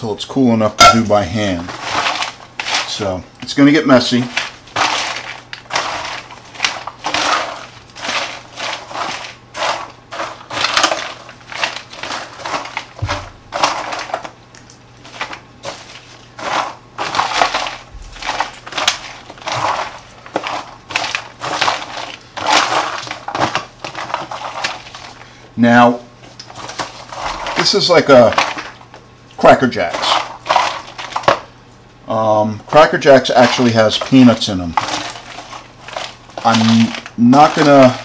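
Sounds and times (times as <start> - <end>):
popcorn scraping on foil: 0.9 - 14.4, 15.0 - 31.5, 32.7 - 38.0.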